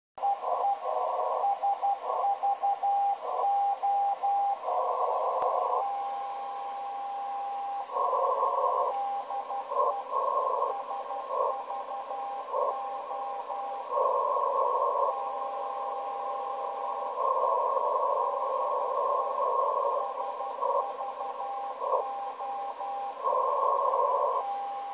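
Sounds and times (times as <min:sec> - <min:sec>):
hissy radio static: 0:00.2 - 0:24.9.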